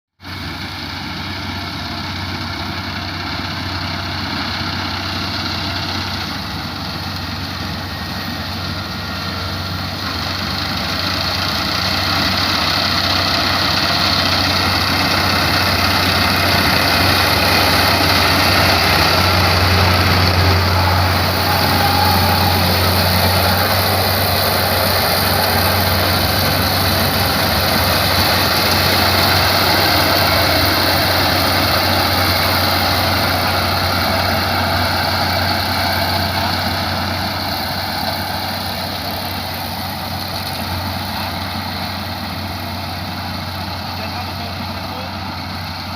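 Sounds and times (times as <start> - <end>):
harvesting machine engine clattering: 0.3 - 45.9.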